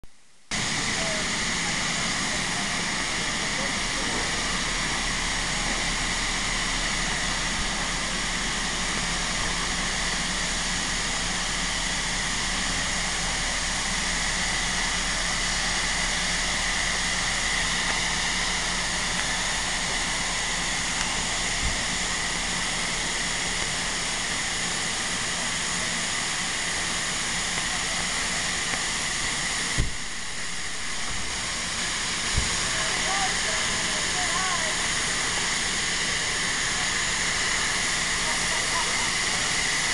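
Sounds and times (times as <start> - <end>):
steam locomotive hissing steam: 0.5 - 39.9.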